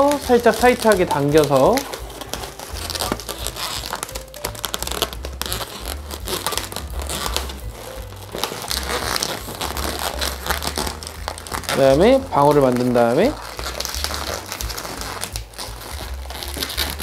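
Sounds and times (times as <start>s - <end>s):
balloons rubbing and crinkling: 0.0s - 17.0s.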